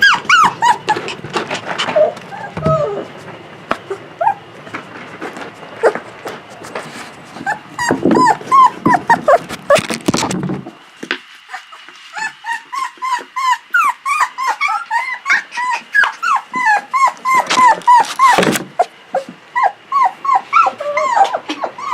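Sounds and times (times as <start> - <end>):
puppies whining and yipping: 0.0 - 10.2, 11.4 - 21.9.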